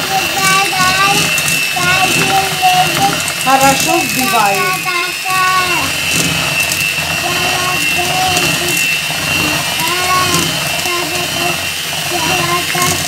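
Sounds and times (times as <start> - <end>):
child's high voice: 0.0 - 3.3, 4.2 - 6.0, 7.2 - 13.0
electric hand mixer whining: 0.0 - 13.0.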